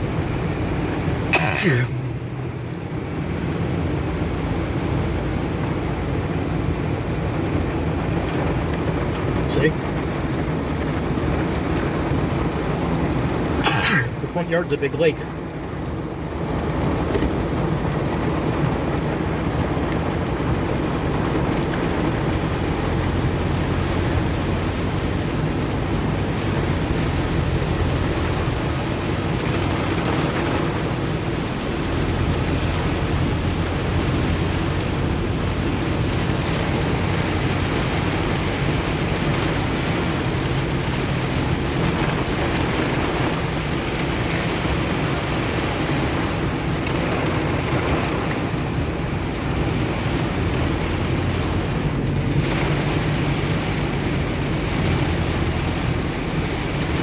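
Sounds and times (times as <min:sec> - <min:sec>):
engine and tyres hum: 0:00.0 - 0:57.0
heavy rain on car roof: 0:00.0 - 0:57.0.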